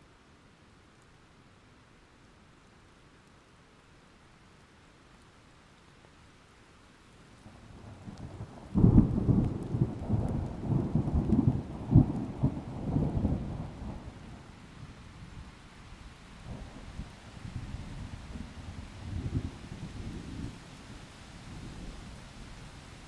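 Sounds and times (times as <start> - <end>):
faint rain hiss: 0.0 - 23.0.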